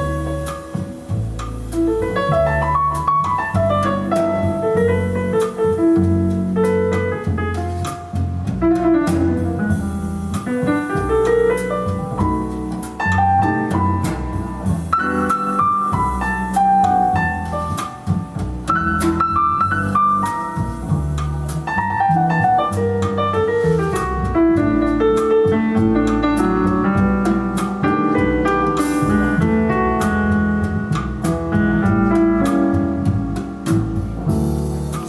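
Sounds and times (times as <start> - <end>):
double bass line: 0.0 - 35.0
jazz piano: 0.0 - 35.0.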